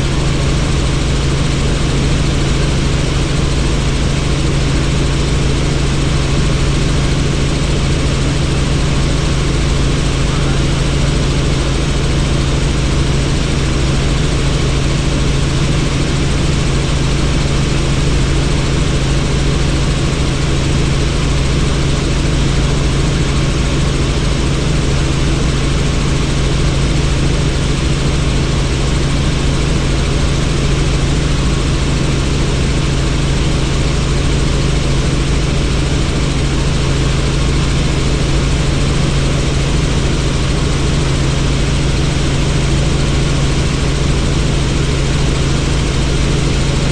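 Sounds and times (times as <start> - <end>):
helicopter rotor and engine drone: 0.0 - 46.9.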